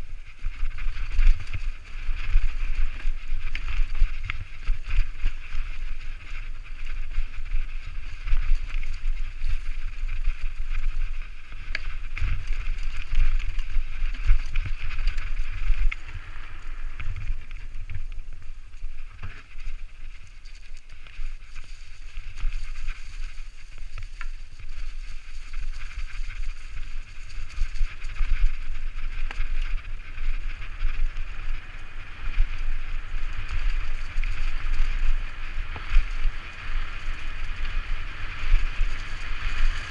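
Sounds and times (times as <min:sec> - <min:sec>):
bike rattling and knocking: 0:00.0 - 0:39.9
bike tyres rolling over dirt: 0:00.0 - 0:39.9
wind rumbling on microphone: 0:00.0 - 0:39.9.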